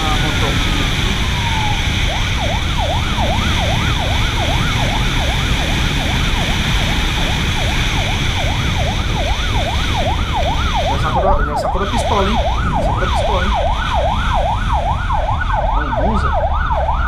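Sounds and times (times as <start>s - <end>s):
motorcycle siren yelping: 0.0s - 17.0s
wind and road noise: 0.0s - 17.0s.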